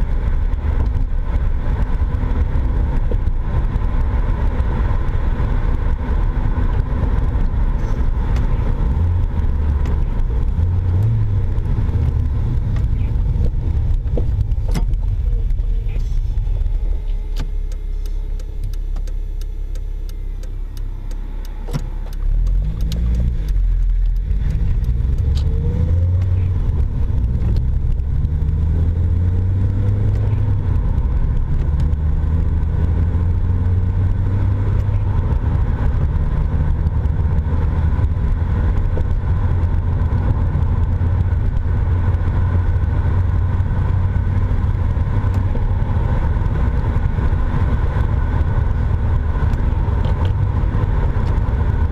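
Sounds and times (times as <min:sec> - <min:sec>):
car engine accelerating: 0:00.0 - 0:51.9
road noise: 0:00.0 - 0:51.9.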